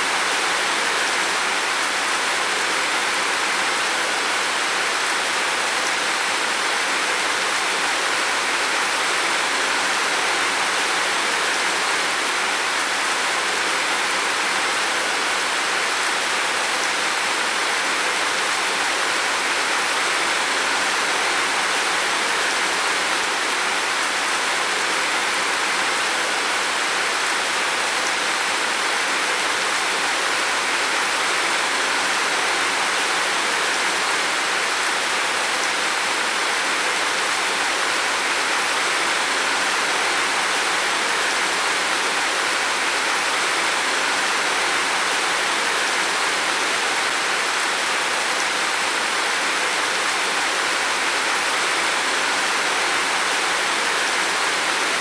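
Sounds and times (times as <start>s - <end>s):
heavy rain drumming on roof: 0.0s - 55.0s.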